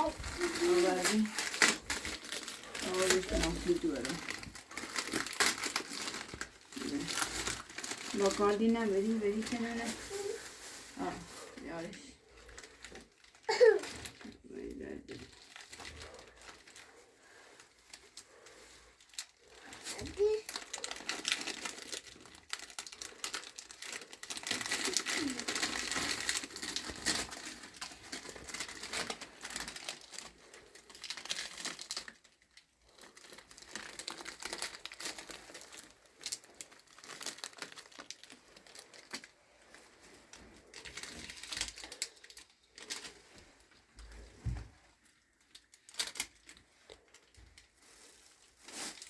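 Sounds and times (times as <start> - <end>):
plastic crinkling: 0.0 - 49.0.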